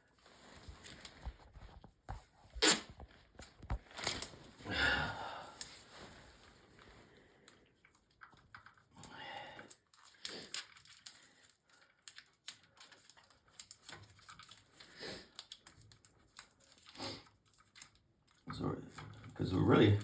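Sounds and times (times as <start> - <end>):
electrical tape crinkling: 0.1 - 4.7, 5.6 - 20.0.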